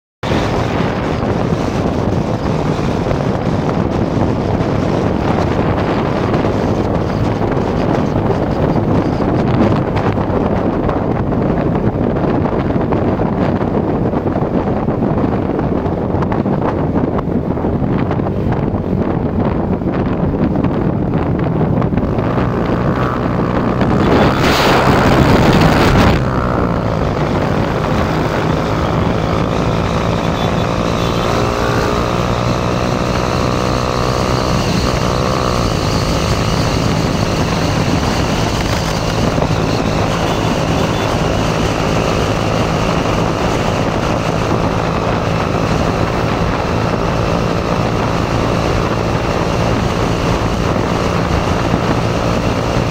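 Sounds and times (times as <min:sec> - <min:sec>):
motorcycle engine running: 0:00.2 - 0:52.9
wind noise: 0:00.2 - 0:52.9.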